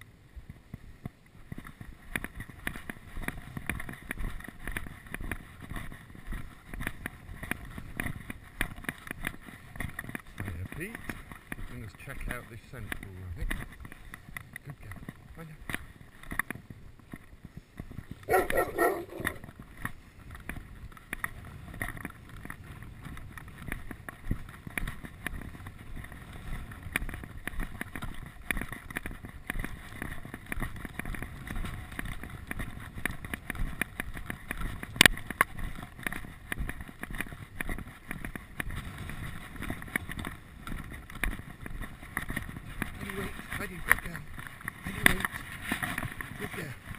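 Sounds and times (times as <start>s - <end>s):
footsteps on gravel: 0.4s - 46.9s.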